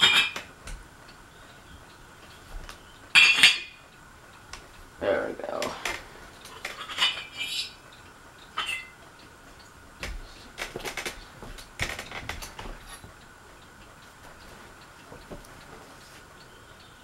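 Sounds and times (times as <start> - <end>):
ceiling fan metallic clinks: 0.0 - 17.0
ceiling fan motor hum: 0.0 - 17.0.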